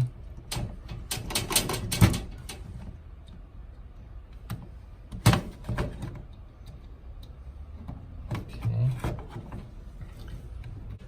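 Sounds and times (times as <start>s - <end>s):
wire connectors clicking and scraping: 0.0s - 11.0s.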